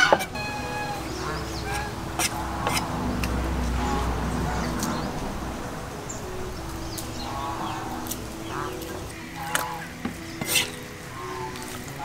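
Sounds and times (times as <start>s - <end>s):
faint steady tones: 0.0s - 12.0s.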